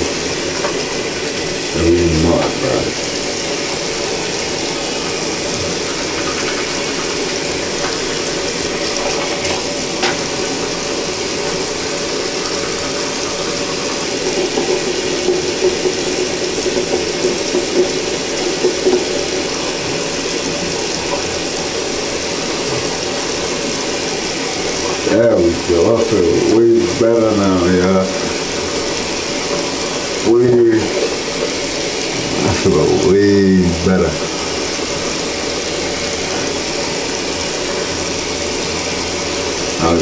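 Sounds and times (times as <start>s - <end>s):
tap water running: 0.0s - 40.0s
water splashing: 0.0s - 40.0s.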